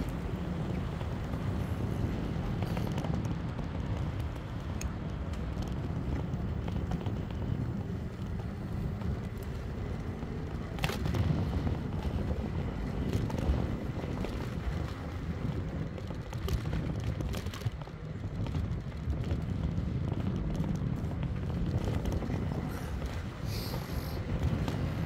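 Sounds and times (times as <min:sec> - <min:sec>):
tyres rumbling over brick paving: 0:00.0 - 0:25.0
wind buffeting the microphone: 0:00.0 - 0:25.0.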